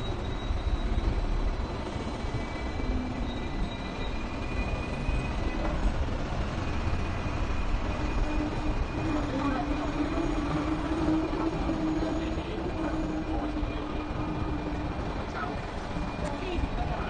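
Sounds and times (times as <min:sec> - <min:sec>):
tram rumbling on tracks: 0:00.0 - 0:17.0.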